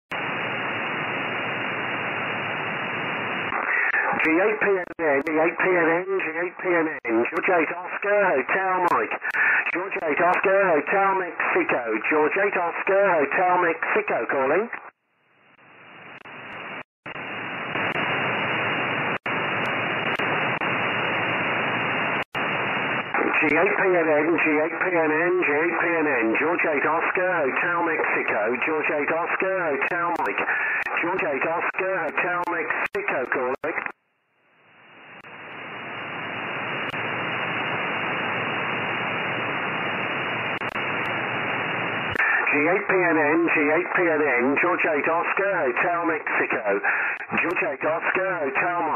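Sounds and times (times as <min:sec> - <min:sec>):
radio receiver static hiss: 0:00.1 - 0:48.9.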